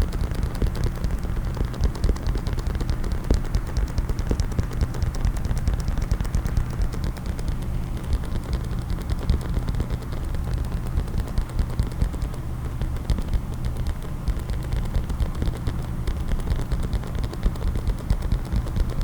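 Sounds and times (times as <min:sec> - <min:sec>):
fingers tapping on a case: 0:00.0 - 0:19.0.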